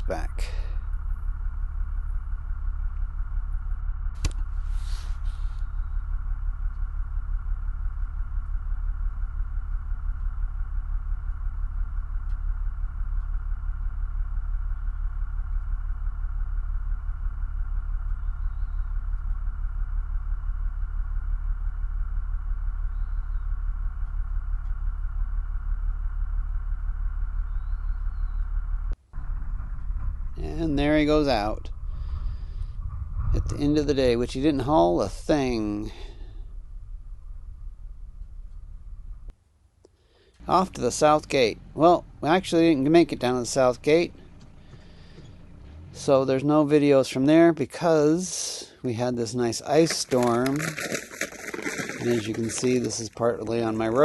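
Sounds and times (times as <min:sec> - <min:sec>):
truck engine idling: 0:00.0 - 0:39.4, 0:40.0 - 0:54.0.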